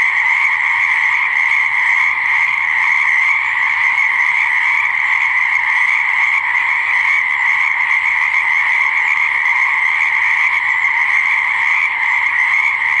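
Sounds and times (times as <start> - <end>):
frogs chorus calling: 0.0 - 13.0.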